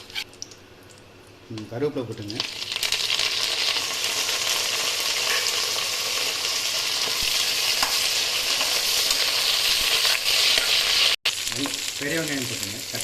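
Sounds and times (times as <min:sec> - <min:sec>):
spices sizzling in hot oil: 0:01.6 - 0:13.0.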